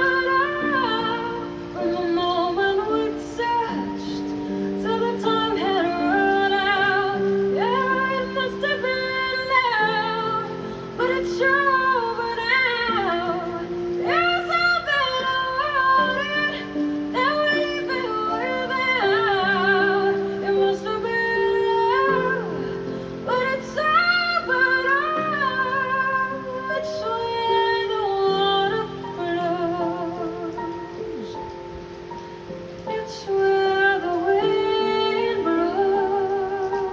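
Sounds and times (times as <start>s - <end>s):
woman singing with vibrato: 0.0s - 36.9s.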